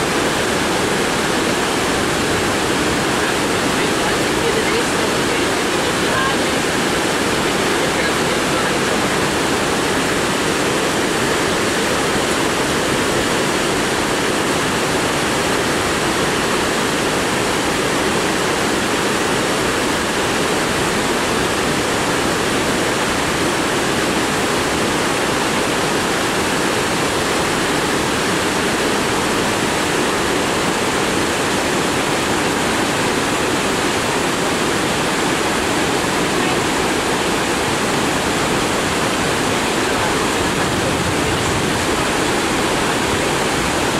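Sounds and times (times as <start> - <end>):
stream rushing over boulders: 0.0 - 43.9.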